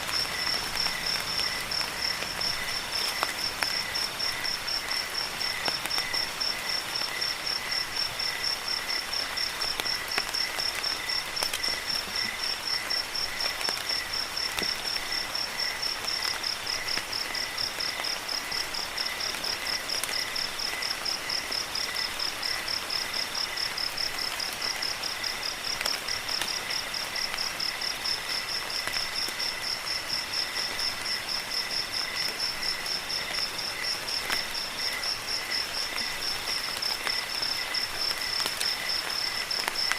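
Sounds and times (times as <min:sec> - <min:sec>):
rain hissing: 0:00.0 - 0:39.9
crickets trilling: 0:00.1 - 0:39.9.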